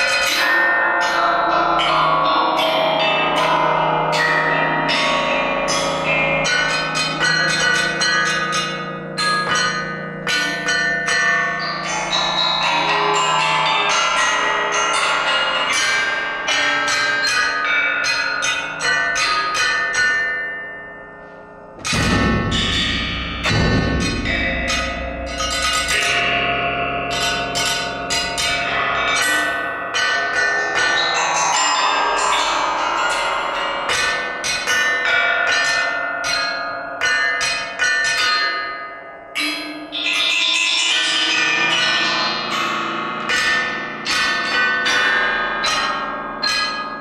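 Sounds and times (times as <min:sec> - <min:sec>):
bell-like metal percussion ringing: 0:00.0 - 0:47.0.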